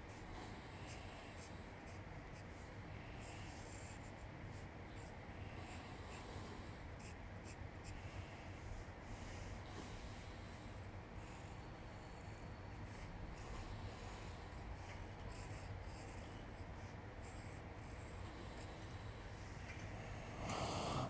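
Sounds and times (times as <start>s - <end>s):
pencil scratching on paper: 0.0s - 19.9s
low steady hum: 0.0s - 21.0s.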